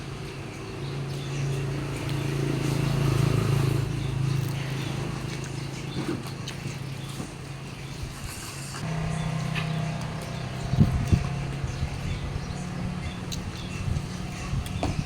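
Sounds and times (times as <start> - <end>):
vehicle engine hum passing: 0.0 - 15.0.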